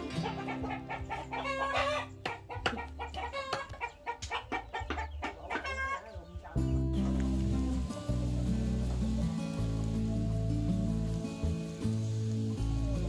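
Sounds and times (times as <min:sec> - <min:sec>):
background music: 0:00.0 - 0:13.0
chickens clucking: 0:00.0 - 0:13.0.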